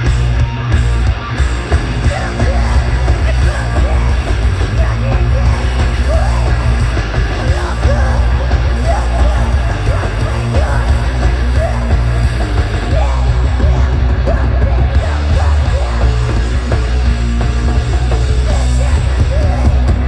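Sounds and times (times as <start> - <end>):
metal band playing live: 0.0 - 20.0
yelled vocals: 0.0 - 20.0.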